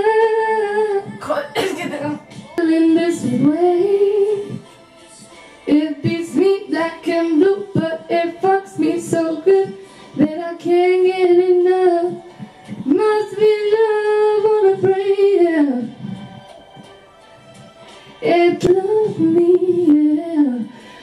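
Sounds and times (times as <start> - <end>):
woman singing into a microphone: 0.0 - 4.7, 5.6 - 16.4, 18.2 - 21.0.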